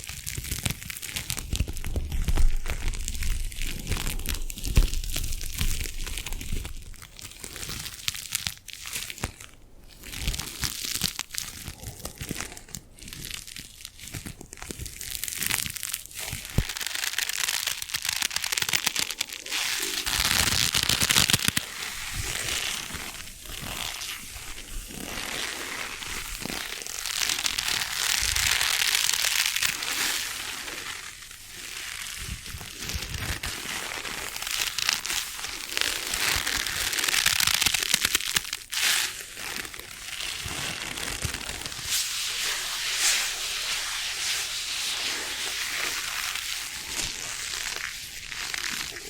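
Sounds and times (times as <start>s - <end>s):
crinkling and crackling handling: 0.0s - 49.0s.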